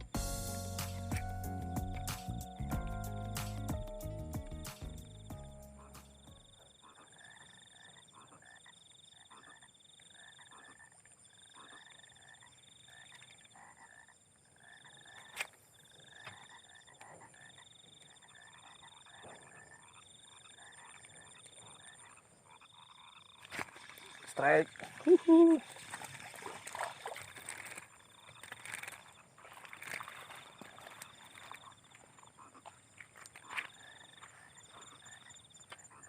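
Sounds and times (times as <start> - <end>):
frogs croaking: 5.0 - 36.0.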